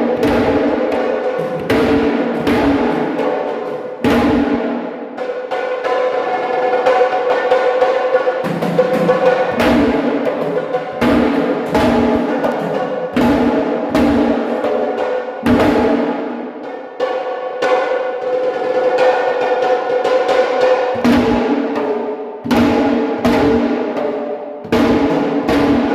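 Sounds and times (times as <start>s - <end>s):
heavy drum strikes: 0.0s - 19.4s, 20.0s - 25.9s.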